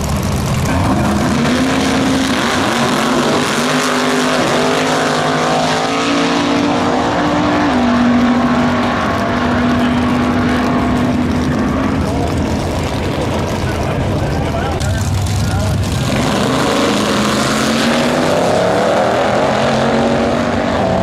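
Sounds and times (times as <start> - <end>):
drag car engines at full throttle: 0.0 - 21.0.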